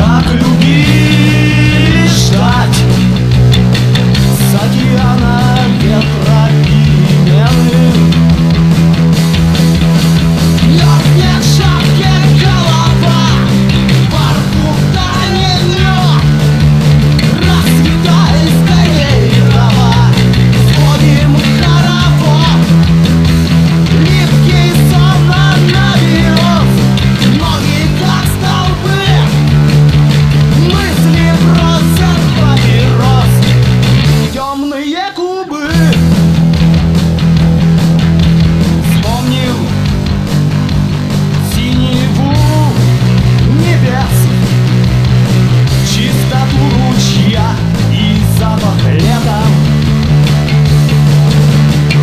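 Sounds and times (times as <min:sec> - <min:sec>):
electric bass low notes: 0:00.0 - 0:34.4, 0:35.7 - 0:52.0
punk rock band: 0:00.0 - 0:52.0.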